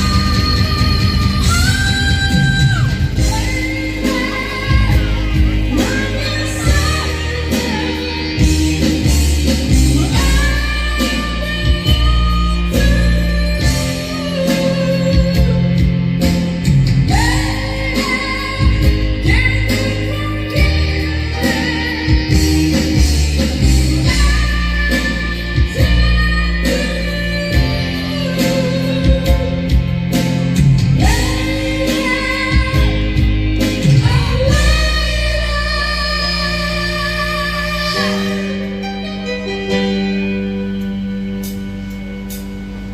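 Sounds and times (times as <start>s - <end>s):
person singing with vibrato: 0.0s - 41.4s
guitar accompaniment: 0.0s - 42.9s.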